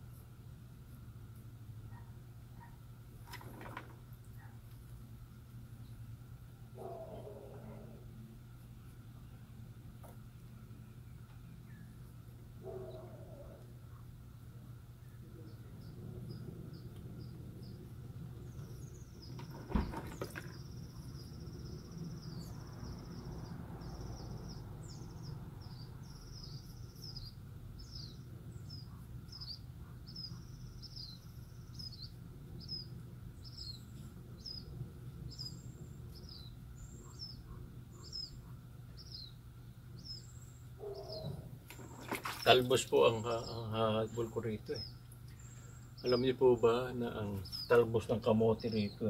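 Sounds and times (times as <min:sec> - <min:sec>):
low steady background hum: 0:00.0 - 0:49.0
bird chirping: 0:08.6 - 0:14.0, 0:15.0 - 0:49.0.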